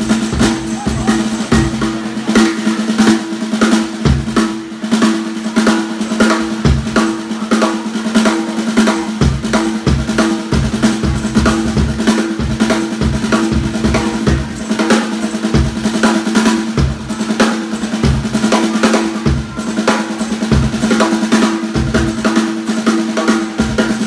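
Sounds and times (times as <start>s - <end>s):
drum head ringing: 0.0s - 24.0s.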